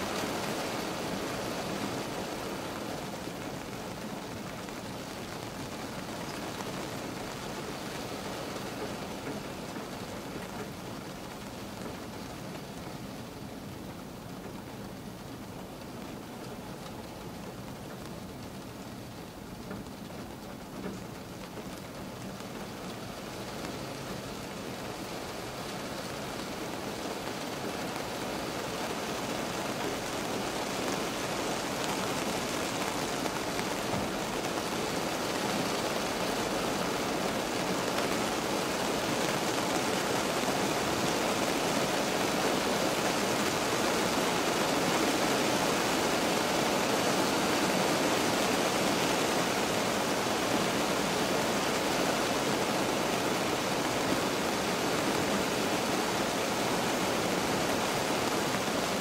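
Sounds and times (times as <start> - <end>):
rain pattering on a car: 0.0 - 59.0.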